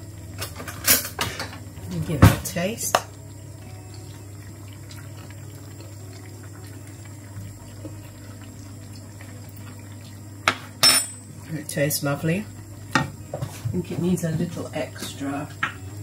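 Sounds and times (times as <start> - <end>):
low steady hum: 0.0 - 16.0
curry bubbling in a pan: 1.2 - 16.0.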